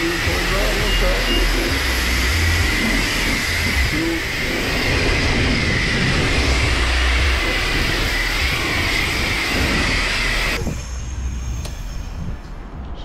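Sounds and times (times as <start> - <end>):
high-pressure water spray hissing: 0.0 - 12.3.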